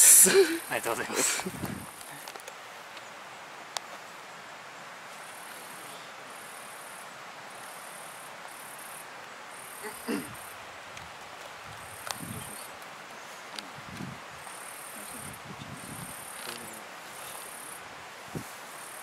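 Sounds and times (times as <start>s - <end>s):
insects trilling: 0.0s - 19.0s
outdoor hiss: 0.0s - 19.0s.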